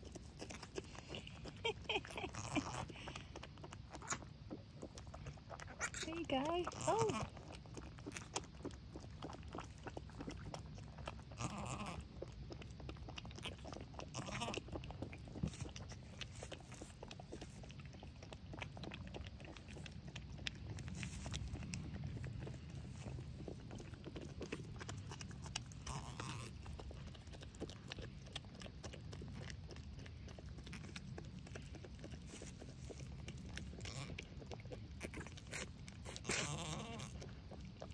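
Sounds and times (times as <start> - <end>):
small clicks and rustles: 0.0 - 37.9.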